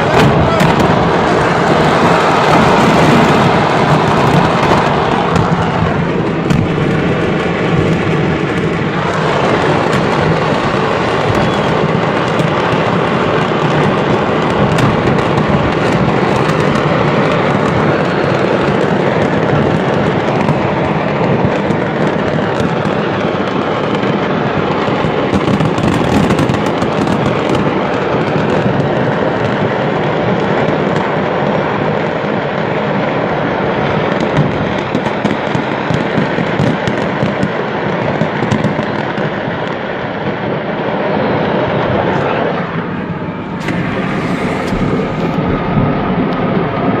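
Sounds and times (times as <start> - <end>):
fireworks crackling and banging: 0.0 - 47.0.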